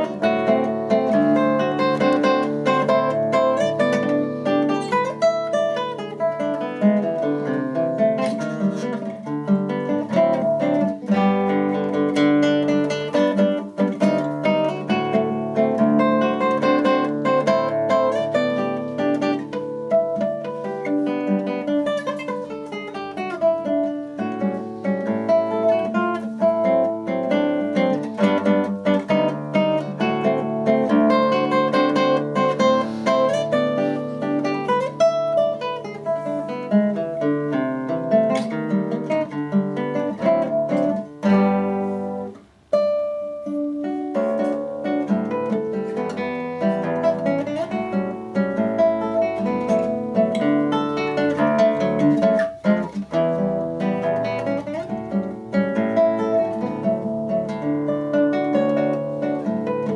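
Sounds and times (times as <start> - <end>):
fingerpicked acoustic guitar: 0.0 - 59.9.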